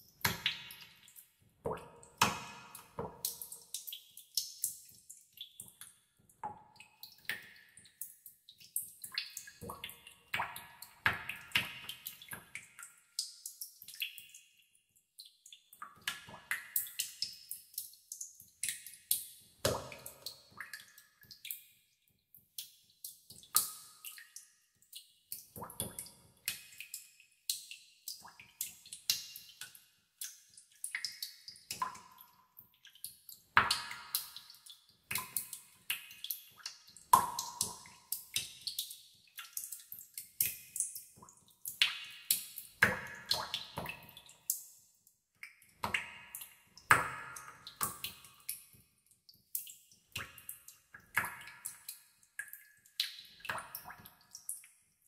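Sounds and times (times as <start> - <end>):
water drops plinking in cave: 0.0 - 21.8, 22.4 - 44.8, 45.4 - 54.8.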